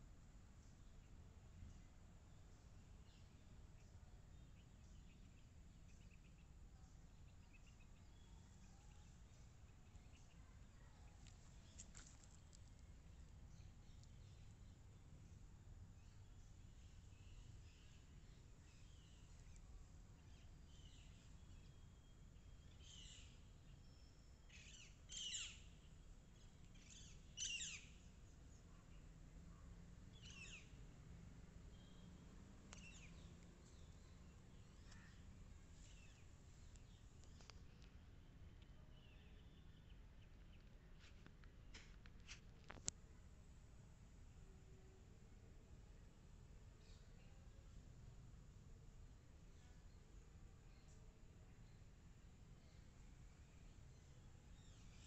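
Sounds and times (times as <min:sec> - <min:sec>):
low background noise: 0:00.0 - 0:55.0.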